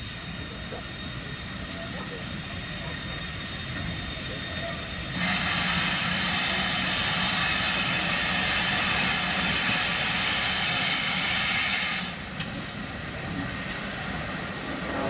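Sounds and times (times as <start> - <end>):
steam train hissing and squealing: 0.0 - 15.0.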